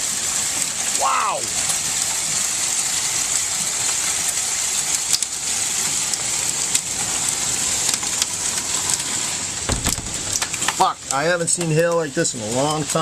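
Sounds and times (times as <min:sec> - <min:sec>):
hail and rain pelting down: 0:00.0 - 0:13.0
hailstones cracking on hard surfaces: 0:00.0 - 0:13.0.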